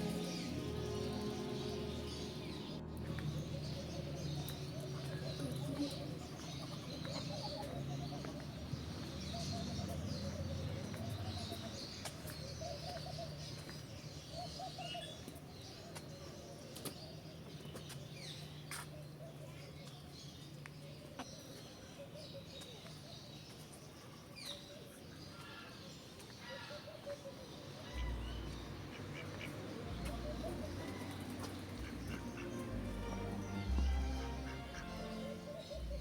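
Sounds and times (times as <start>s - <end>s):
birds chirping and twittering: 0.0s - 36.0s.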